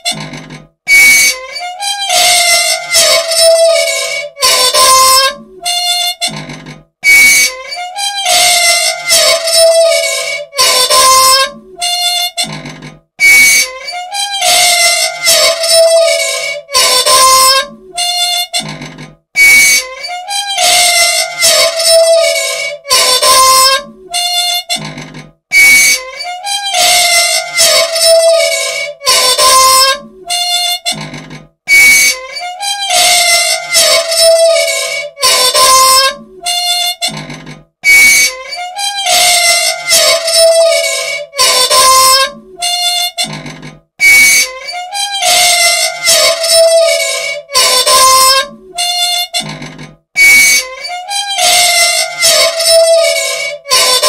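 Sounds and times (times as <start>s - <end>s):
unoiled machine squealing: 0.0s - 54.0s.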